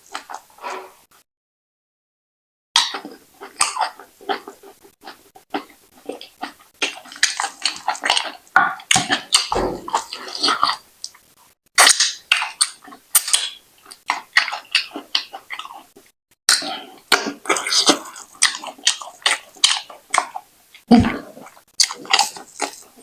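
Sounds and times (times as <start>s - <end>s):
wet chewing and lip-smacking: 2.8s - 23.0s.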